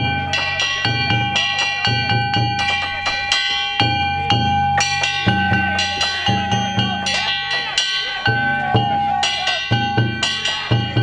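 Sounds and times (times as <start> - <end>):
hand-struck gongs clanging: 0.0 - 11.0
taiko drum beating: 0.0 - 11.0.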